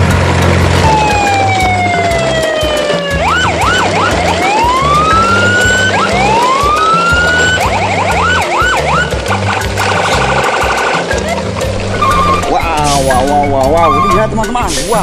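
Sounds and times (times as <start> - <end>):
background music with bass line: 0.0 - 15.0
electronic siren yelps and wails: 0.8 - 14.4.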